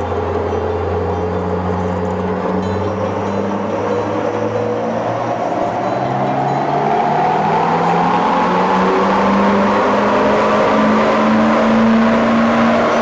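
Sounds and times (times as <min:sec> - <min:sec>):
diesel engine revving under load: 0:00.0 - 0:13.0.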